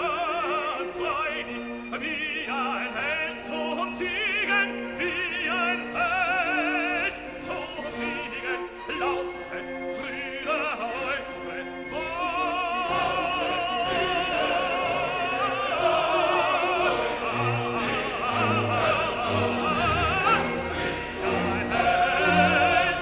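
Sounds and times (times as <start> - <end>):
operatic singing: 0.0 - 23.0
orchestral accompaniment: 0.0 - 23.0.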